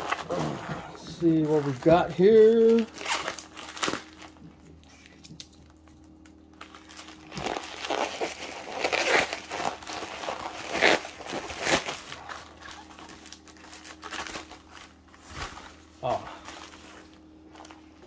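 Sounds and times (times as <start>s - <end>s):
plastic envelopes crinkling: 0.0s - 18.0s.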